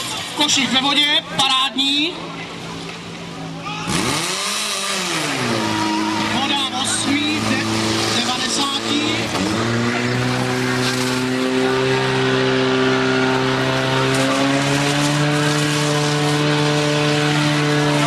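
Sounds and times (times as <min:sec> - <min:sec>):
fire pump engine running hard: 0:00.0 - 0:18.0.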